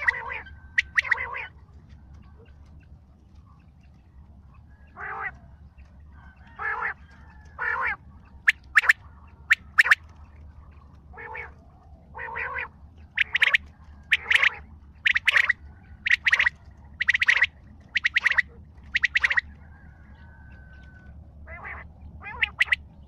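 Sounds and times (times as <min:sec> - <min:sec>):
sharp high-pitched bird calls: 0:00.0 - 0:03.9, 0:06.2 - 0:10.3, 0:11.1 - 0:20.9, 0:21.5 - 0:23.0
harsh nasal bird calls: 0:00.0 - 0:04.0, 0:04.7 - 0:10.1, 0:11.1 - 0:23.0.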